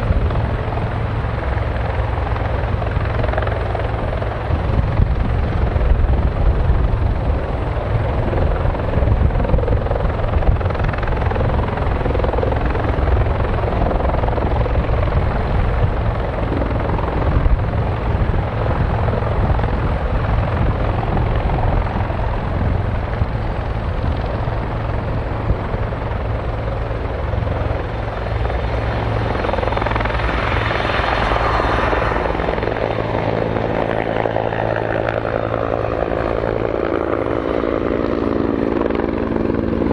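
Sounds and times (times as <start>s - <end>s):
turbine noise: 0.0s - 39.9s.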